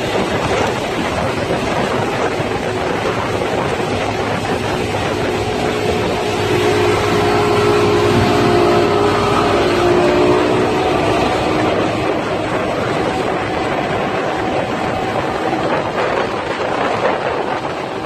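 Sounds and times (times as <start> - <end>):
motorboat engine drone: 0.0 - 18.0
wake water rushing: 0.0 - 18.0
wind rushing: 0.0 - 18.0.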